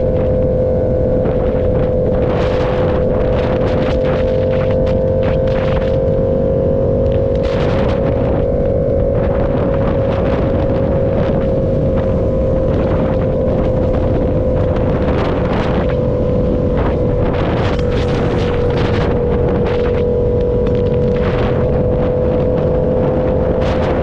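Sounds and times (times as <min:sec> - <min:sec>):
motorcycle engine cruising: 0:00.0 - 0:24.0
wind buffeting microphone: 0:00.0 - 0:24.0.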